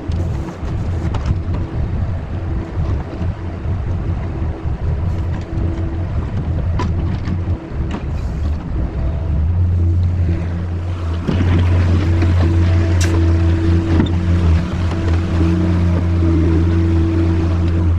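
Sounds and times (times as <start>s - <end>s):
skid steer engine rumbling: 0.0s - 17.9s.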